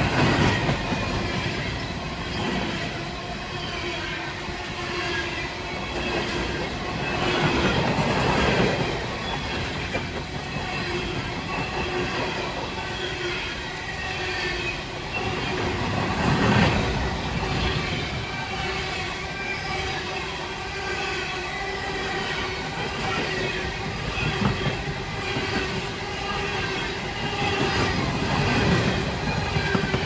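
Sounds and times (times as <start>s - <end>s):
train wheels clattering over rails: 0.0s - 19.1s, 21.9s - 30.0s.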